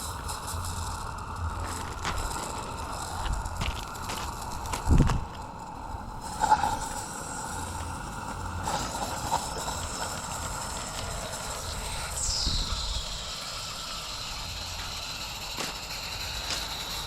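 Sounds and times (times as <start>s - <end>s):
model steam locomotive running: 0.0s - 17.0s.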